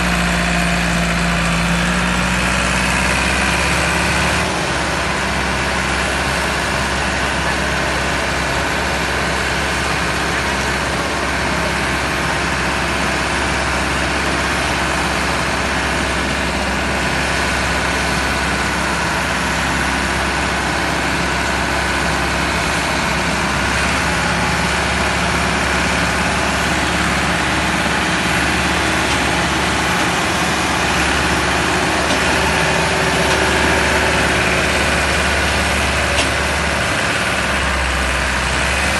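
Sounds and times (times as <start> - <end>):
diesel tractor engine under load: 0.0 - 38.9.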